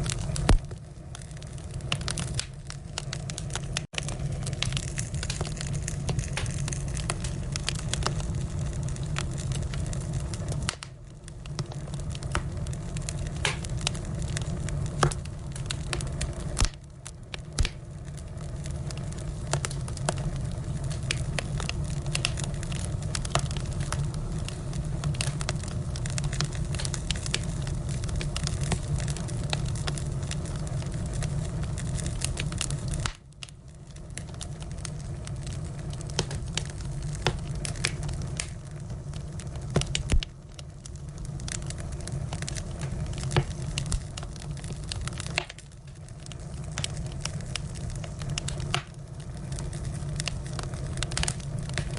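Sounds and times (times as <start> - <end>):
firewood crackling and popping: 0.0 - 51.9
low rush of flame: 0.0 - 51.9.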